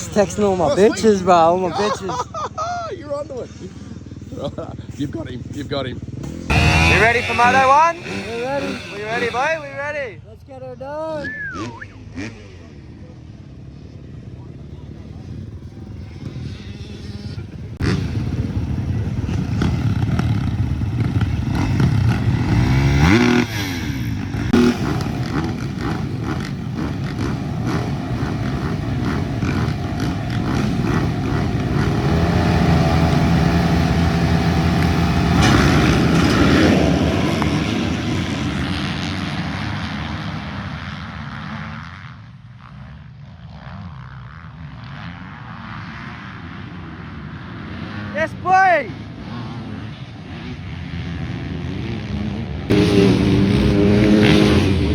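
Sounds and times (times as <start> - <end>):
dirt bike engines at full throttle: 0.0 - 54.9.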